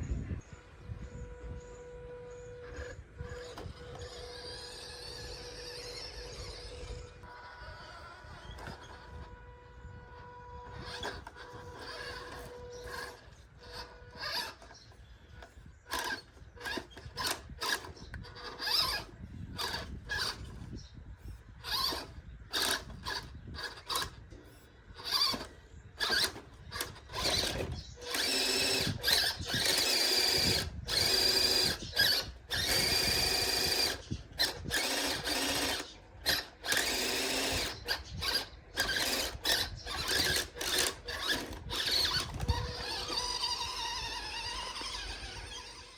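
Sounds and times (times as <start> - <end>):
toy truck motor whining: 0.4 - 45.9.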